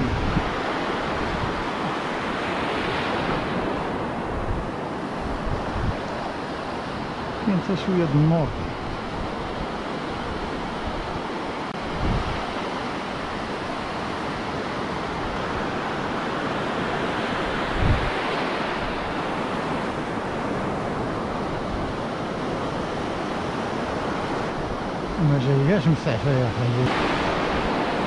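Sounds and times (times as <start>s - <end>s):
surf washing up on sandy beach: 0.0s - 28.0s.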